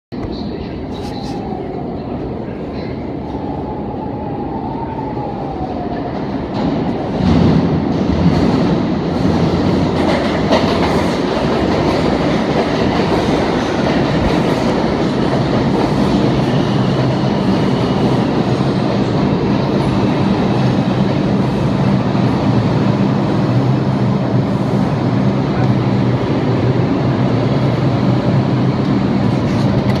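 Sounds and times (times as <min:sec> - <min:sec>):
low train hum: 0:00.1 - 0:30.0
subway train wheels rumbling: 0:00.1 - 0:30.0.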